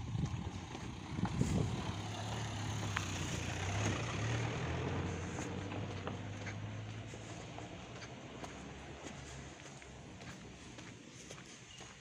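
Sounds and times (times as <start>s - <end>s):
car engine humming: 0.0s - 11.6s.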